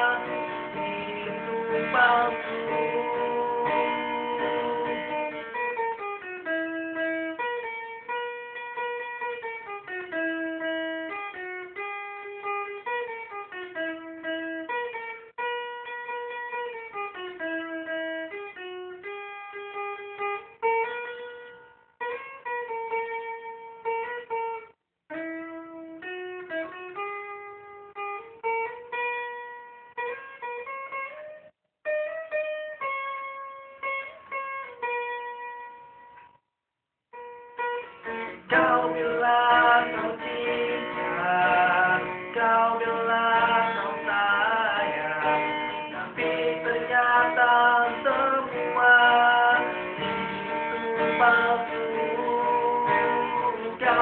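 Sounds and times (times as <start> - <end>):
acoustic guitar: 0.0 - 36.4, 37.1 - 54.0.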